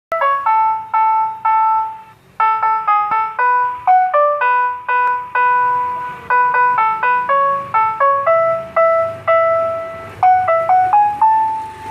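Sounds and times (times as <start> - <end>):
electronic chime melody: 0.1 - 11.9.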